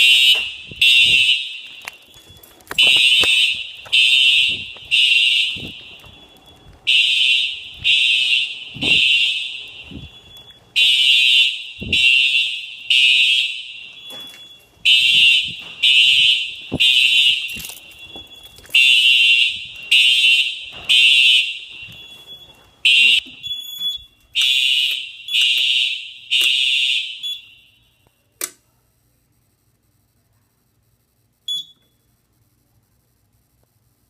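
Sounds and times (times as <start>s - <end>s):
fire alarm beeps: 0.0s - 28.3s, 31.3s - 32.2s.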